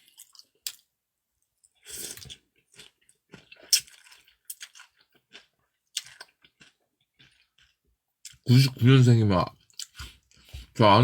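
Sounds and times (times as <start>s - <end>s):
person chewing food: 0.0s - 8.5s, 9.5s - 11.0s.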